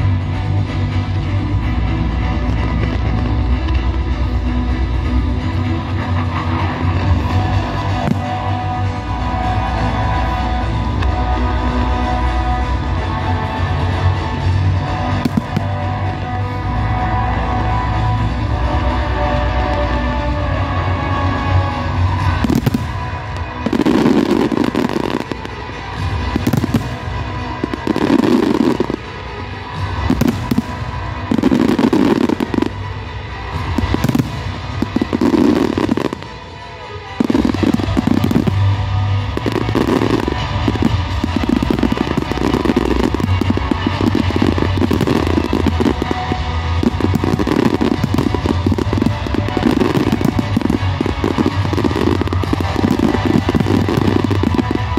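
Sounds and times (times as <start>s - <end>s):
fireworks bangs and crackles: 0.0s - 54.9s
music playing: 0.0s - 54.9s.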